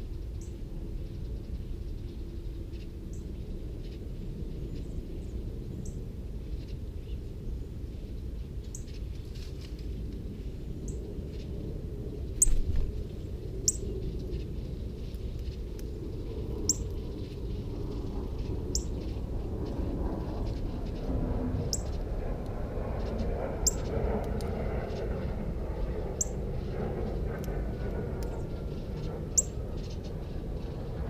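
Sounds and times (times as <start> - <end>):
low background rumble: 0.0 - 31.0.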